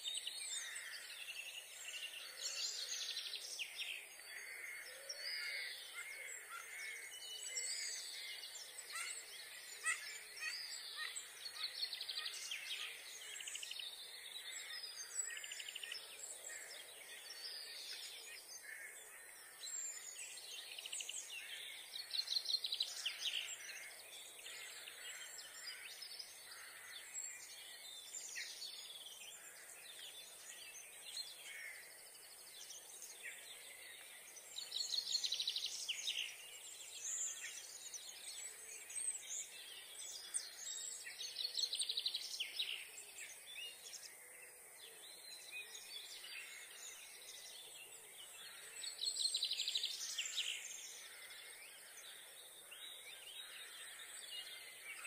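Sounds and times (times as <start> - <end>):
songbirds singing and trilling: 0.0 - 55.0.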